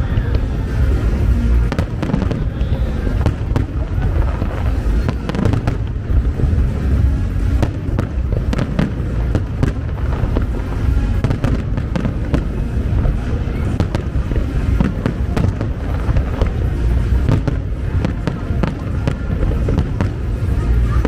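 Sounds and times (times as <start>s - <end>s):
continuous low rumble: 0.0s - 21.0s
fireworks bangs and crackles: 0.0s - 21.0s.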